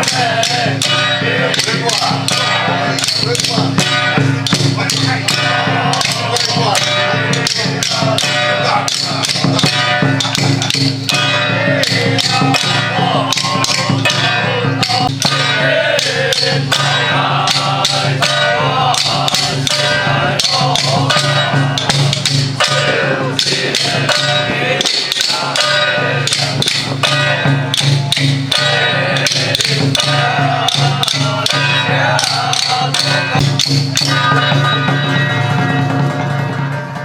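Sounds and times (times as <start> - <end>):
wood block knocks: 0.0 - 34.6
ritual music: 0.0 - 37.0.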